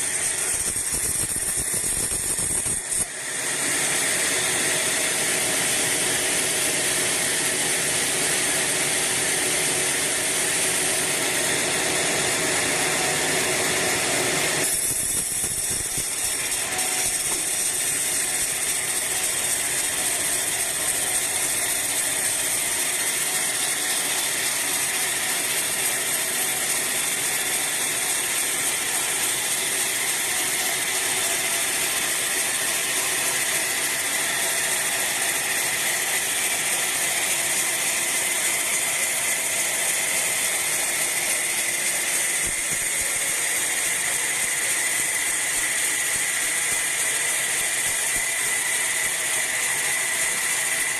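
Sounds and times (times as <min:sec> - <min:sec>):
band saw cutting log: 0:00.0 - 0:50.9.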